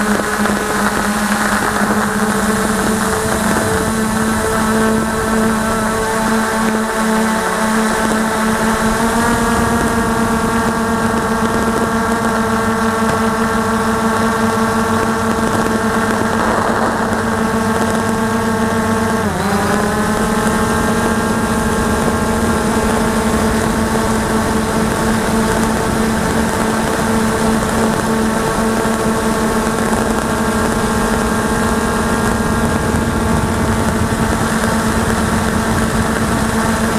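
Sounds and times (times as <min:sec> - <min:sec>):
drone motors buzzing: 0:00.0 - 0:36.9.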